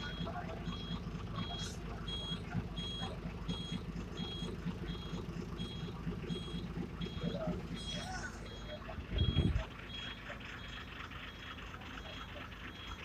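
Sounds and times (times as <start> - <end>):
bus engine rumble: 0.0 - 13.0
reversing alarm beeping: 0.0 - 13.0.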